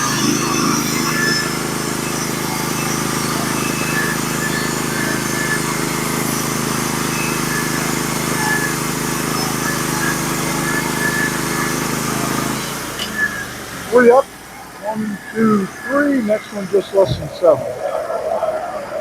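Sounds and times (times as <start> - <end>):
sawmill gas engine running: 0.0 - 19.0.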